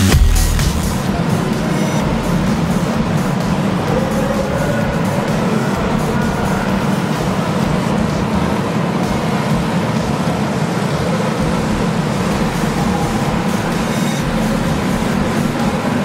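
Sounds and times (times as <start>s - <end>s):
go-kart engines racing: 1.0s - 16.0s.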